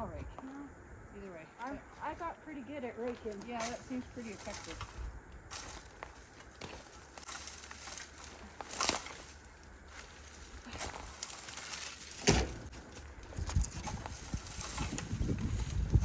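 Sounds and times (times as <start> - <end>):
raking dry brush debris: 3.0 - 16.0.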